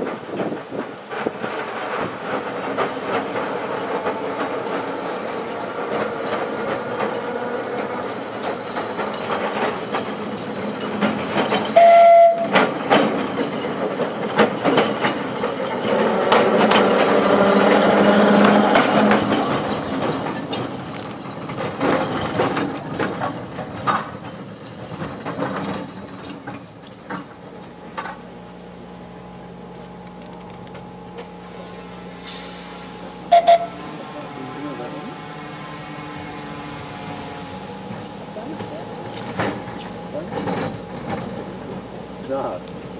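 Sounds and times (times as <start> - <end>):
tram motor whine: 0.0 - 42.9
tram wheels on rails: 0.0 - 42.9
tram warning note: 1.8 - 21.6, 26.2 - 42.9.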